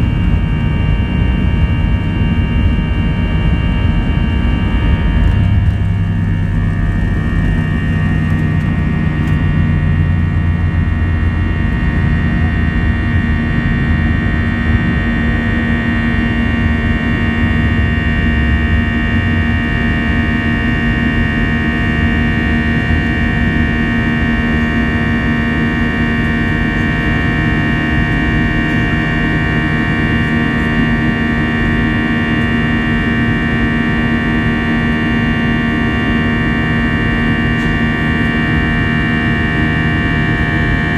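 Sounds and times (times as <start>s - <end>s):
deep rumble: 0.0s - 40.9s
high engine whine: 0.0s - 40.9s
jet engines roaring: 0.0s - 40.9s
low hum: 0.0s - 40.9s.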